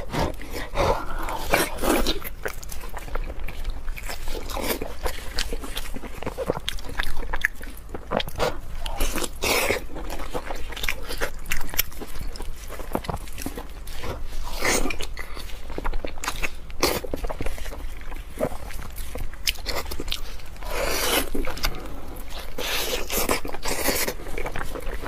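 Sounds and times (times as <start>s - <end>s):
biting and chewing meat: 0.0s - 25.0s.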